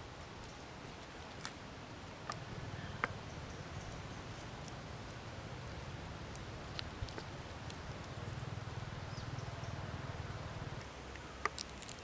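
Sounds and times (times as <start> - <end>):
low steady background: 0.0 - 12.0
faint clicks and crackles: 0.4 - 9.7, 10.7 - 12.0.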